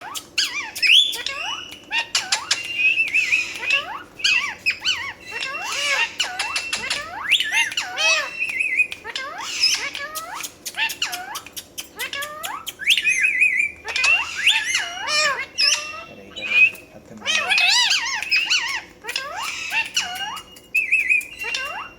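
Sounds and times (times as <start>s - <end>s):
parrot chirping and whistling: 0.0s - 21.9s.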